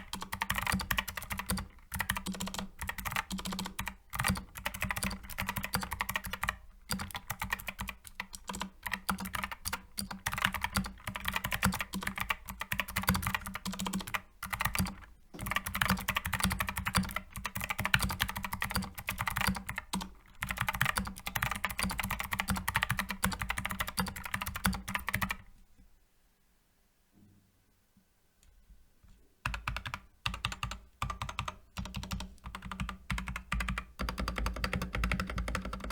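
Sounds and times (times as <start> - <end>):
mechanical keyboard typing: 0.0 - 25.5, 29.4 - 35.9.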